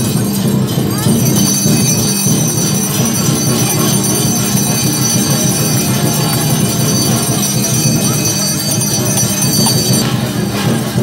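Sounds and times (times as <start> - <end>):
street crowd din: 0.0 - 11.0
high ringing tones: 1.0 - 10.1.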